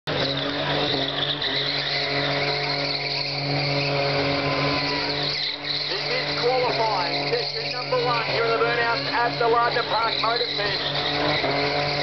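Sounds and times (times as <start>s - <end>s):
car engine at high revs: 0.0s - 12.0s
tyres screeching: 0.1s - 12.0s.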